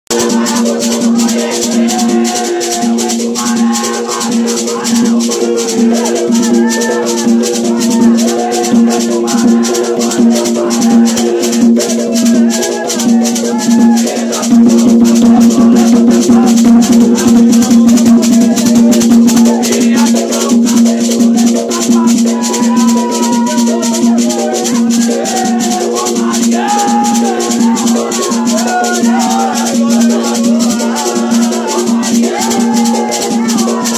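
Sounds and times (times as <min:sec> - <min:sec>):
shaken rattles beat: 0:00.1 - 0:33.9
voices singing: 0:00.1 - 0:33.9.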